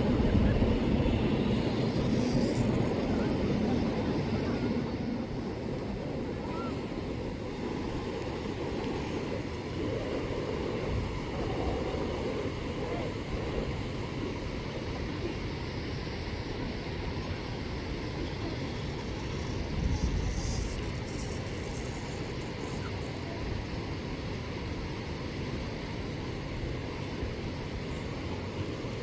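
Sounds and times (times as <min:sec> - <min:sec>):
wind blowing across microphone: 0:00.0 - 0:29.0.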